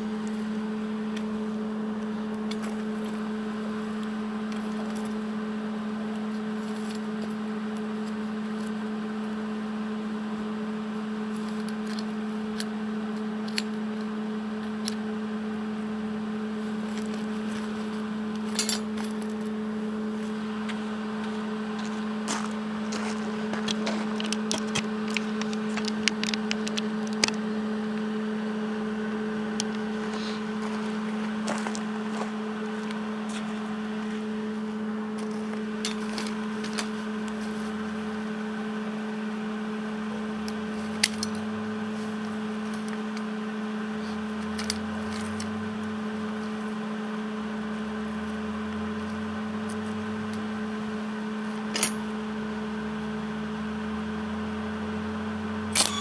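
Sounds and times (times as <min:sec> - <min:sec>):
welder electrical hum: 0:00.0 - 0:56.0.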